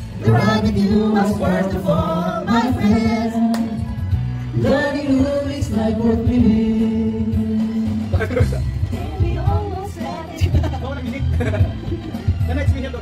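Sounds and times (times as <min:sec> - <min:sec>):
song with sung vocals: 0:00.0 - 0:10.6.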